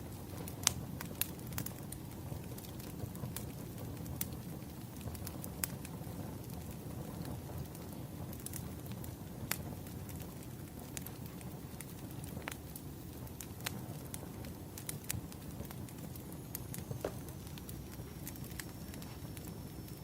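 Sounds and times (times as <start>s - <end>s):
fire rumbling: 0.0s - 20.0s
firewood crackling and popping: 0.0s - 20.0s.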